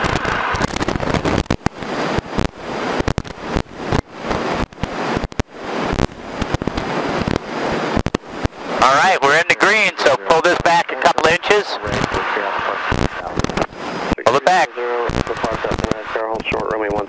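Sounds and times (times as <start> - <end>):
propeller plane engine at full power: 0.0 - 17.0.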